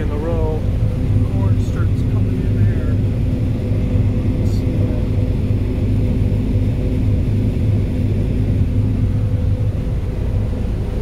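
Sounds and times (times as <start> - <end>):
combine harvester drone: 0.0 - 11.0.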